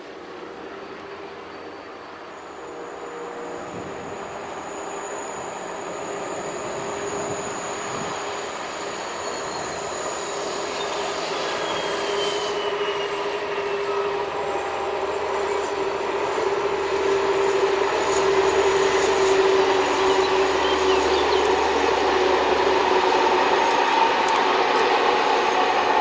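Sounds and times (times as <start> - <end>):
diesel locomotive engine drone: 0.0 - 26.0
high wheel squeal: 0.5 - 26.0.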